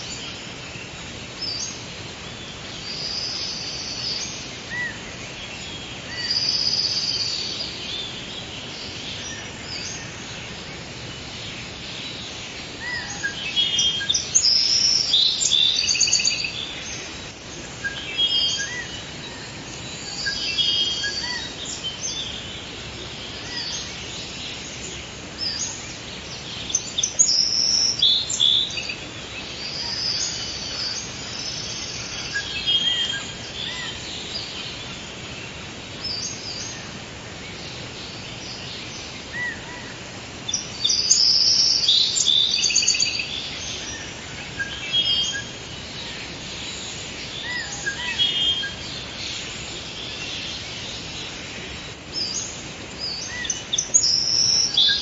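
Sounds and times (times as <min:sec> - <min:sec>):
songbirds singing and chirping: 0:00.0 - 0:55.0
steady background hiss: 0:00.0 - 0:55.0.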